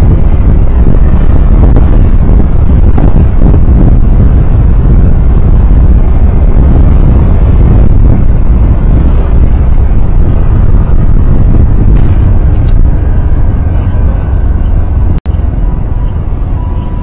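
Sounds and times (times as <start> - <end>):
vehicle engine and road noise: 0.0 - 17.0
wind rumbling on microphone: 0.0 - 17.0.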